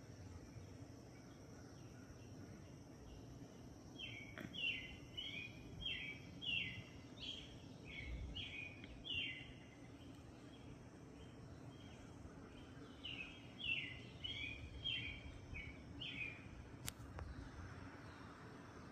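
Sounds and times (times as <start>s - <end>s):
bird chirping: 0.0s - 18.9s
faint low hum: 0.0s - 18.9s.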